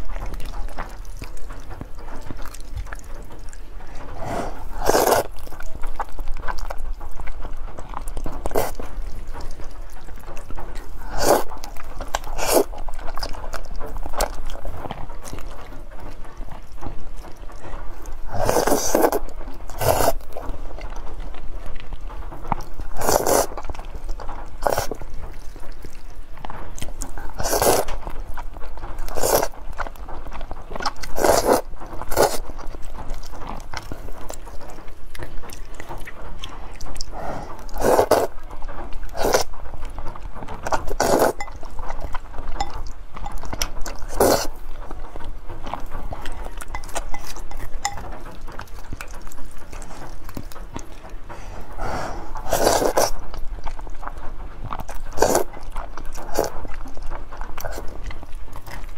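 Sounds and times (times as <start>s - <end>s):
noodle slurping: 0.0s - 7.4s, 8.0s - 16.8s, 18.1s - 20.7s, 22.9s - 26.0s, 26.8s - 28.4s, 29.0s - 29.8s, 30.8s - 39.5s, 40.5s - 44.7s, 45.7s - 58.9s
wet chewing: 0.0s - 58.9s.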